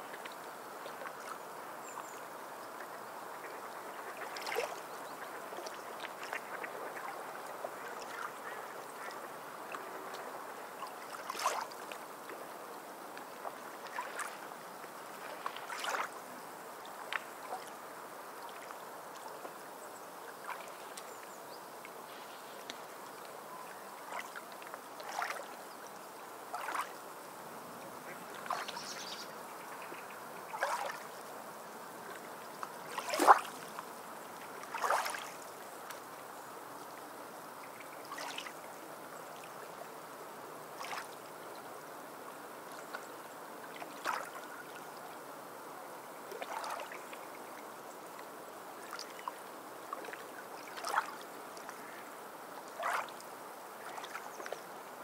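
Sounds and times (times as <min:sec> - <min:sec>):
water lapping and splashing: 0:00.0 - 0:45.3, 0:46.0 - 0:55.0
soft steady hiss: 0:00.0 - 0:55.0.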